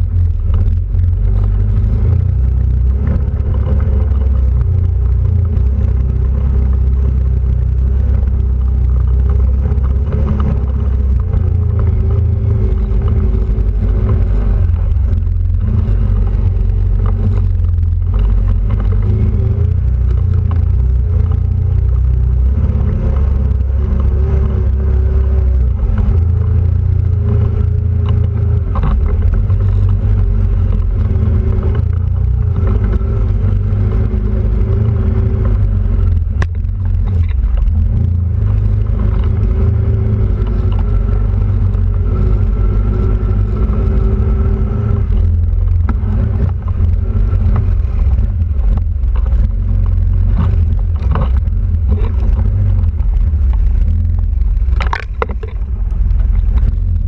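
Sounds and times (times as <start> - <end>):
quad bike engine rumble: 0.0 - 57.0.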